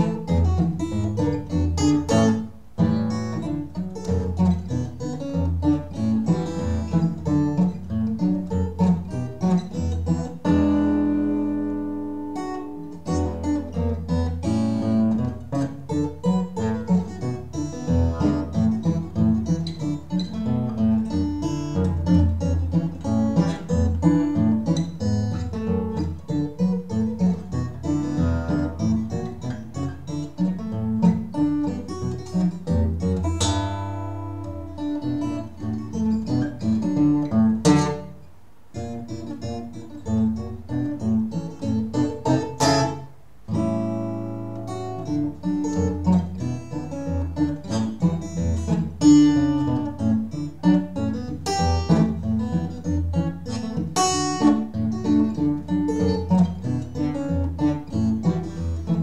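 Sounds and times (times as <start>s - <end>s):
acoustic guitar picking: 0.0s - 59.0s.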